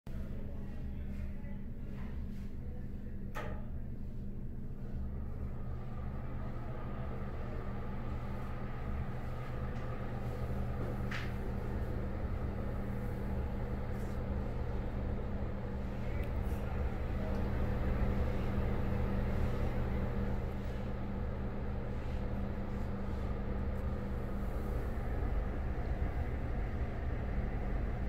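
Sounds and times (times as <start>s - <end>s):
exhaust fan humming: 0.1s - 28.0s.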